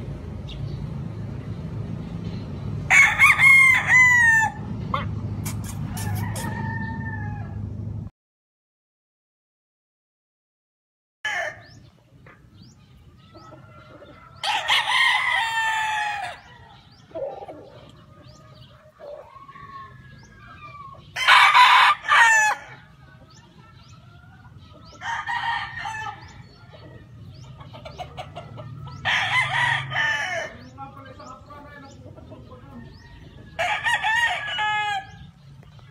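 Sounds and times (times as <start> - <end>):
roosters crowing: 2.7 - 8.0, 11.2 - 35.9.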